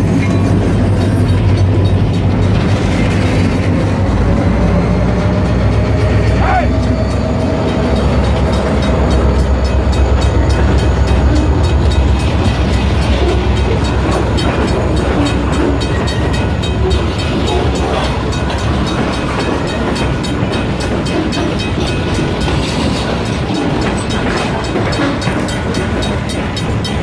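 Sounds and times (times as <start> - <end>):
locomotive rumble: 0.0 - 27.0
train wheels clicking on rails: 0.0 - 27.0.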